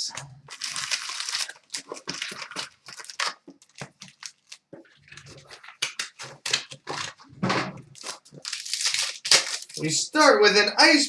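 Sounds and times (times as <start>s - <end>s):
wrapper crinkling and tearing: 0.0s - 7.3s, 7.9s - 9.8s.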